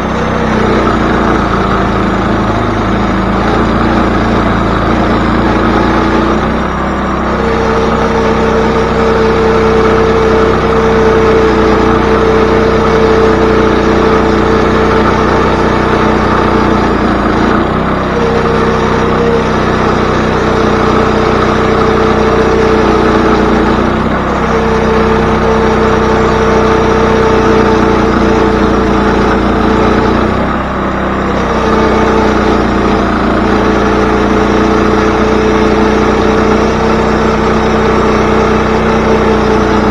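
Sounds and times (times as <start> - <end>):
band sawmill engine drone: 0.0 - 39.9.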